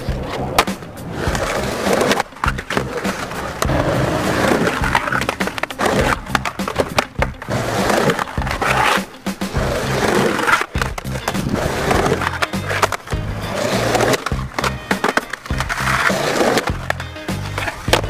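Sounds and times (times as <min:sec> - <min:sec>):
background music: 0:00.0 - 0:18.0
skateboard clacks: 0:00.0 - 0:18.0
skateboard wheels rolling on concrete: 0:00.0 - 0:18.0.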